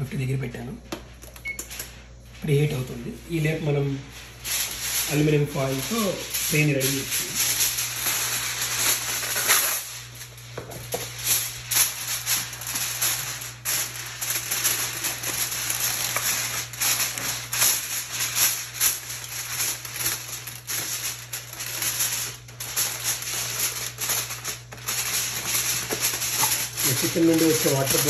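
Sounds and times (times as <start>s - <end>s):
aluminium foil crinkling: 1.1s - 28.0s.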